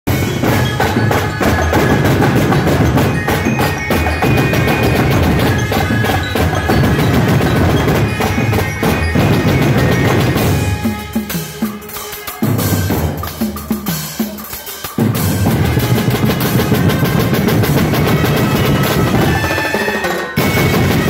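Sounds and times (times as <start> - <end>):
percussion band drumming: 0.0 - 21.0
cymbals: 0.1 - 21.0
ringing metallic tones: 0.1 - 21.0.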